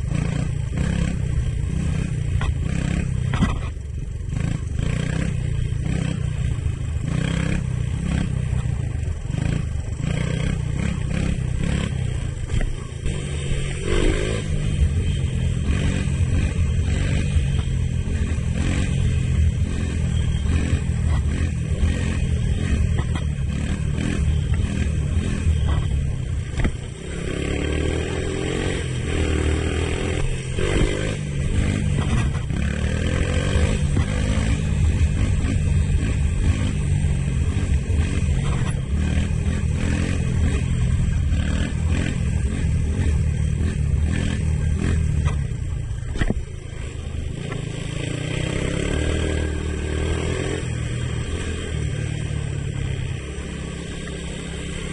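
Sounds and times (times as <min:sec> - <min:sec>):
four-stroke engine revving: 0:00.0 - 0:54.9.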